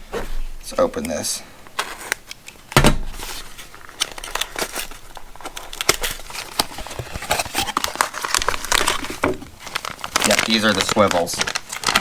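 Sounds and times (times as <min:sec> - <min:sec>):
wrapping crinkling and rustling: 0:00.0 - 0:12.0.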